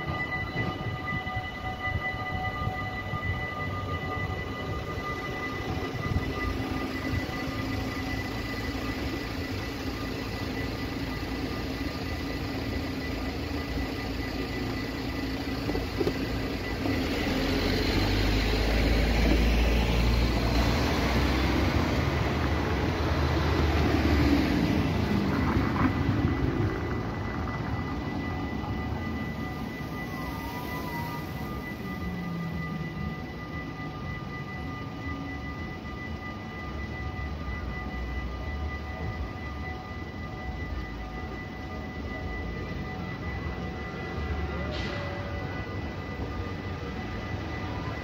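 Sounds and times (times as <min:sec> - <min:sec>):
electric train rumbling: 0:00.0 - 0:48.0
road traffic passing: 0:00.0 - 0:48.0.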